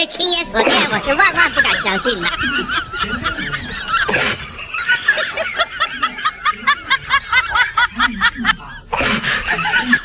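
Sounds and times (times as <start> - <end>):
cartoon laughter: 0.6 - 10.0.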